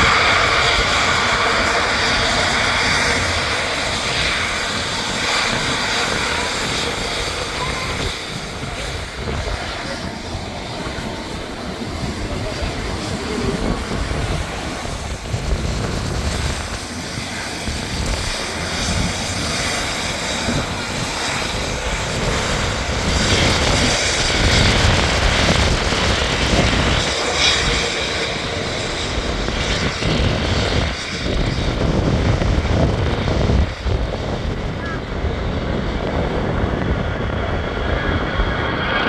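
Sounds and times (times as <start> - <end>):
jet engines running: 0.0 - 39.0
wind buffeting microphone: 0.0 - 39.0.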